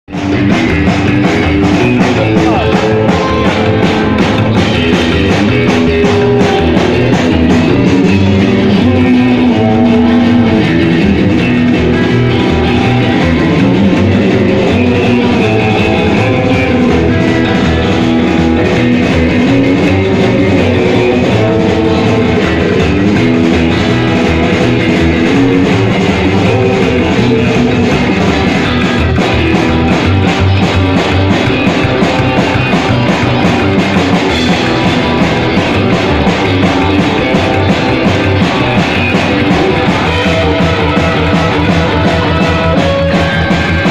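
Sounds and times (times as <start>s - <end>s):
guitar band music: 0.0s - 43.9s
drum kit beat: 0.1s - 43.9s.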